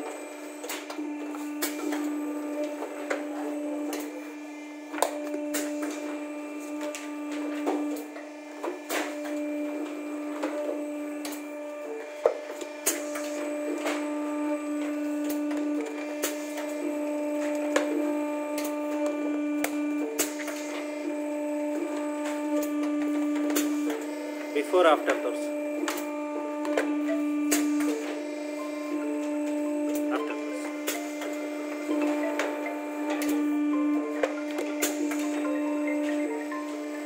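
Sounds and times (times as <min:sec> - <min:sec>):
machine electric hum: 0:00.0 - 0:37.0.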